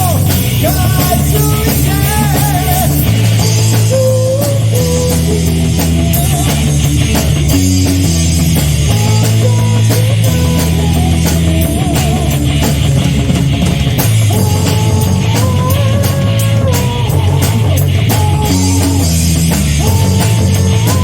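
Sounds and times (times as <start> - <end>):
rock band playing live: 0.0 - 21.0
sliding lead guitar: 0.0 - 21.0.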